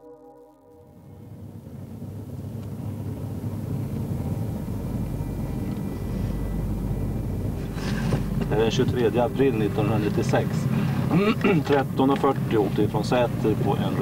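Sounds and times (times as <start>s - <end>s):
road and engine rumble in car: 1.2s - 14.0s.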